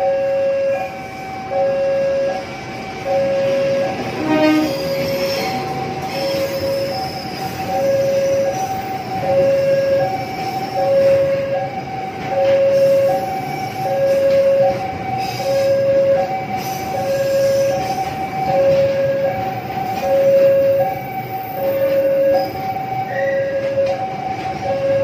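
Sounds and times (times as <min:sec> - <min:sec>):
freight train rolling past: 0:00.0 - 0:25.0
level-crossing alarm two-tone: 0:00.0 - 0:25.0.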